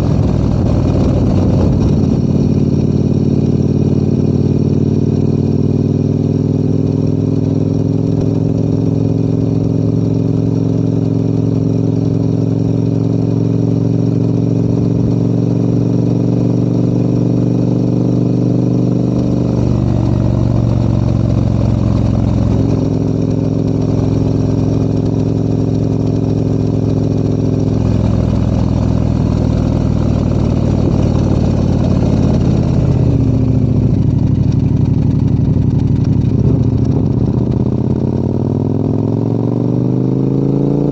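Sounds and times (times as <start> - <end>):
motorcycle engine running uphill: 0.0 - 40.9.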